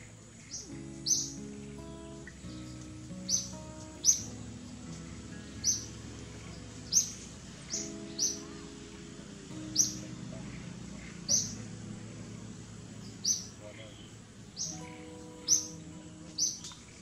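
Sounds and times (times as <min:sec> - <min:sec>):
bird chirping: 0:00.0 - 0:17.0
soft background music: 0:00.0 - 0:17.0.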